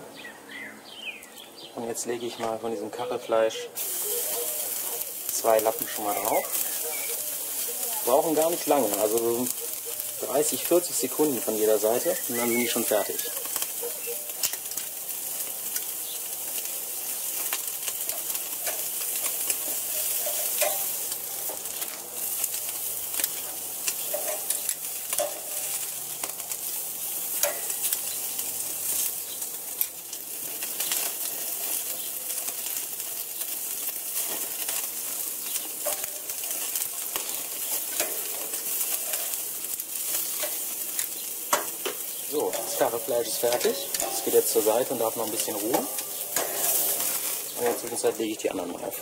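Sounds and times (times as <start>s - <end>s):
pork sizzling on a grill: 1.0s - 49.0s.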